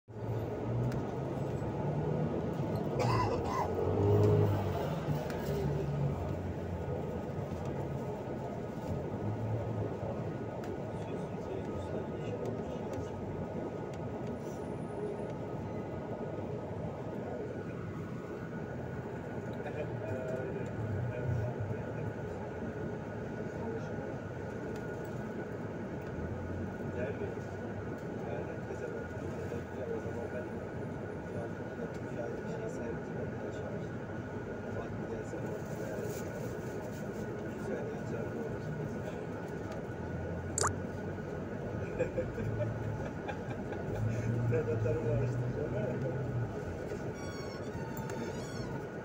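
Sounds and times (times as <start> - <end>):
vehicle rumble from inside: 0.1 - 32.4, 33.3 - 49.0.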